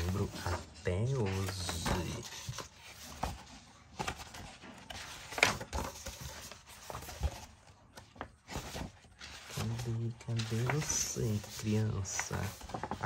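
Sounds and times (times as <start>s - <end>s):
book pages turning: 0.0s - 13.0s.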